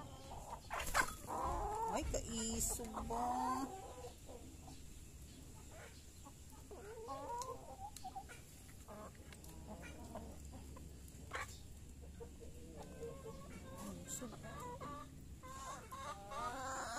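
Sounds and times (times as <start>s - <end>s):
hens clucking: 0.0s - 16.9s.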